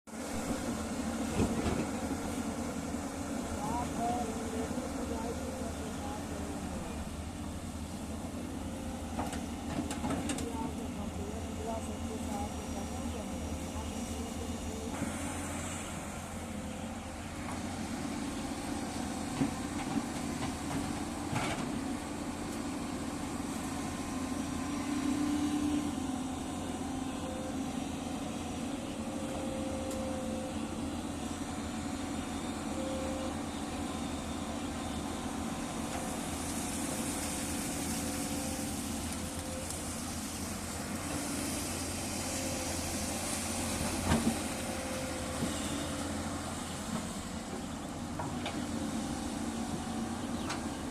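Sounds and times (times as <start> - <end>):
excavator diesel engine running: 0.1 - 50.9.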